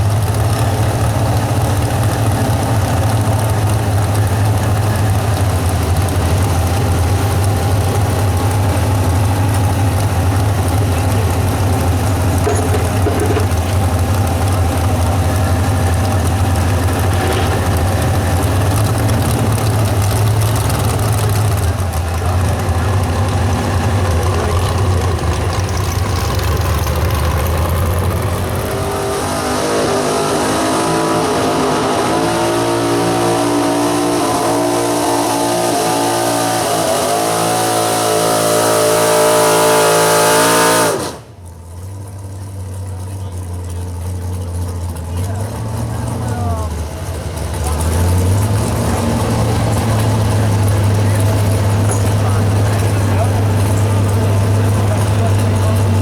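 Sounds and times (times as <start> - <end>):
truck engine droning and revving: 0.0 - 56.0.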